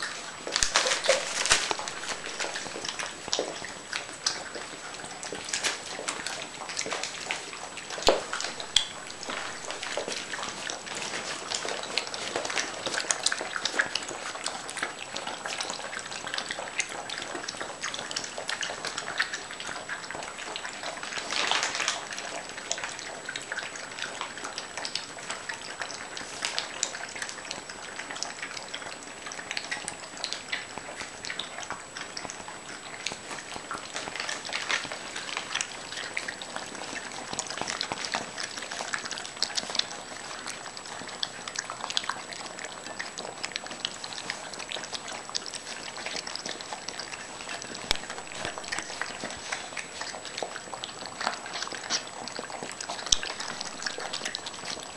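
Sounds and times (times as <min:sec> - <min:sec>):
puppies eating wet food: 0:00.0 - 0:54.9.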